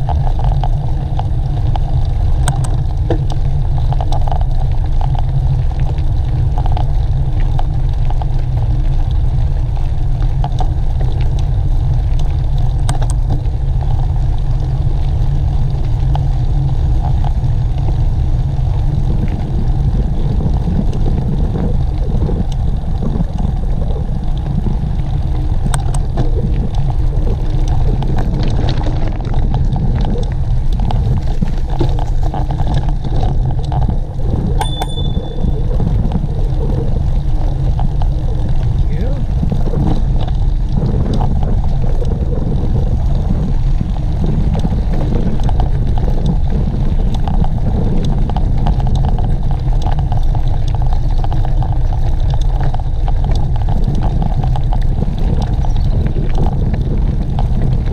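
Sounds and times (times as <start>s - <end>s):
wind rumble on microphone: 0.0s - 57.9s.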